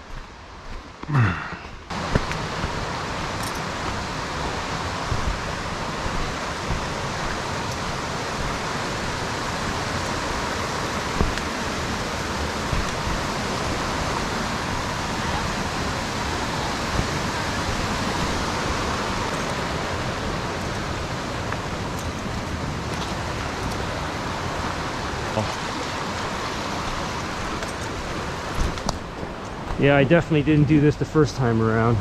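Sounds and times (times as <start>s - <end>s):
creek rushing: 0.0s - 32.0s.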